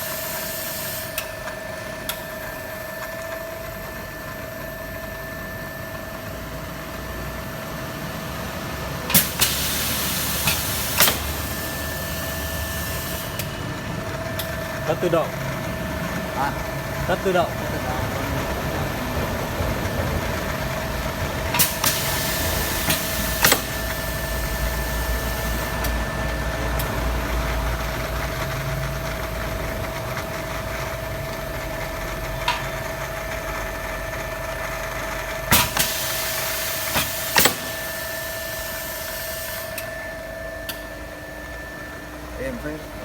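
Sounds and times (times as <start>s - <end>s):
pipe-cutting machine hum and whine: 0.0s - 43.0s.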